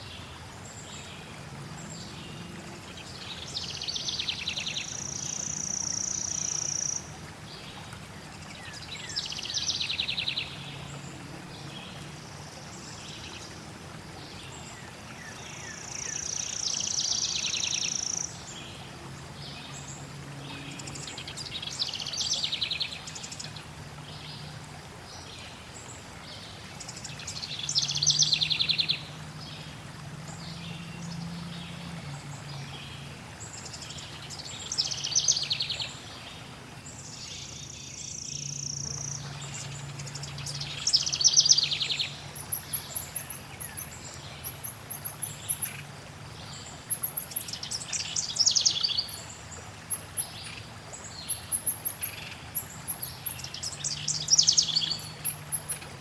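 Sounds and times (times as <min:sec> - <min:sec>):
flowing water: 0:00.0 - 0:56.0
songbirds singing: 0:00.0 - 0:56.0.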